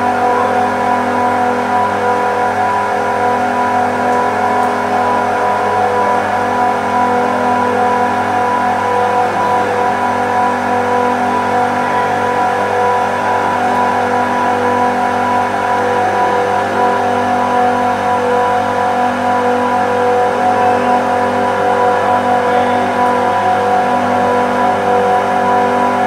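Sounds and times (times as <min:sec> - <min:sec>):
compressors humming: 0:00.0 - 0:26.0.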